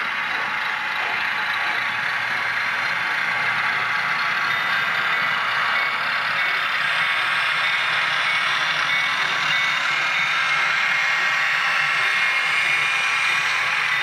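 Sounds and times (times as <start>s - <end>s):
model train motors whirring: 0.0s - 14.0s.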